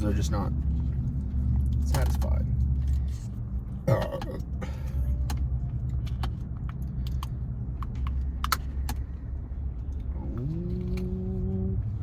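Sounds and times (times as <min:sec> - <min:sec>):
car running low hum: 0:00.0 - 0:12.0.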